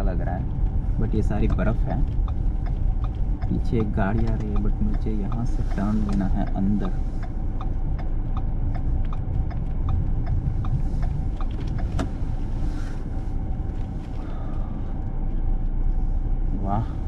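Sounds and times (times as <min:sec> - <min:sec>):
car engine and tyres rumbling: 0:00.0 - 0:17.0
turn signal ticking: 0:00.0 - 0:17.0.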